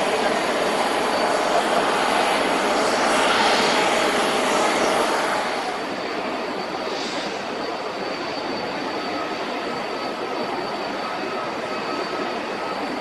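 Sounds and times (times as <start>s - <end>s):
loud jet engine noise: 0.0s - 13.0s.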